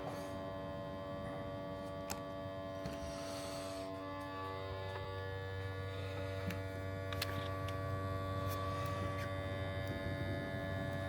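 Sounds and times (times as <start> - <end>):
steady multi-pitched hum: 0.0 - 11.0.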